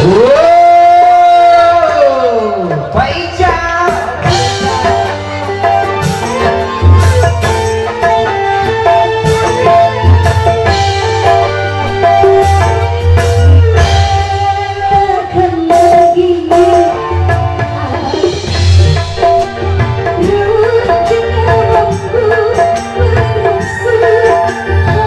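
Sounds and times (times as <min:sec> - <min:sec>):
drums: 0:00.0 - 0:25.0
lead melody line: 0:04.0 - 0:25.0.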